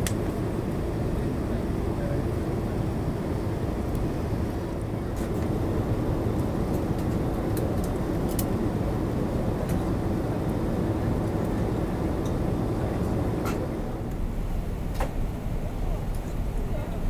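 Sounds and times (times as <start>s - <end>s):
airplane cabin rumble: 0.0s - 17.0s
jet engine noise: 0.0s - 17.0s.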